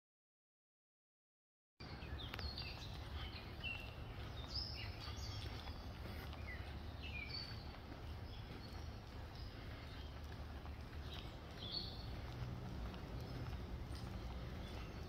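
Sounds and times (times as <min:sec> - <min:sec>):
low outdoor rumble: 0:01.8 - 0:15.0
small birds chirping: 0:01.8 - 0:15.0.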